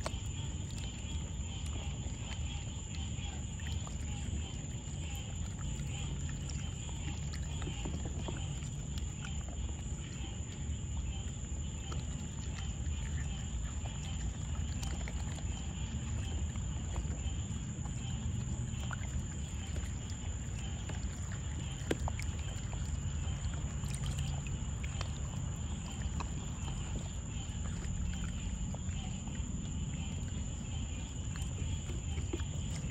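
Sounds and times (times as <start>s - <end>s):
low steady rumble: 0.0s - 32.9s
paws splashing in shallow water: 0.0s - 32.9s.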